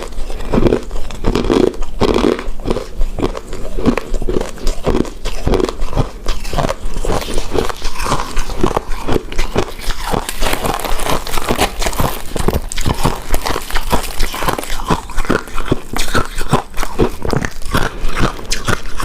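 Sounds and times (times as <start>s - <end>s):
chewing with mouth clicks: 0.0s - 19.0s.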